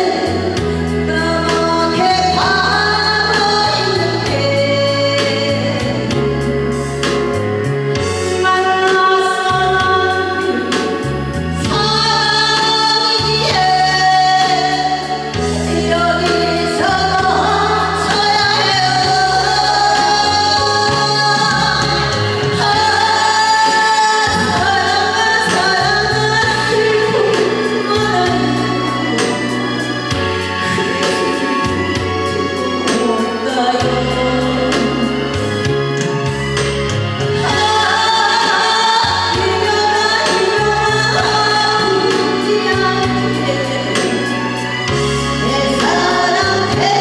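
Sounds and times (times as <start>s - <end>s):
backing track with bass line: 0.0s - 47.0s
person singing ballad: 0.0s - 47.0s.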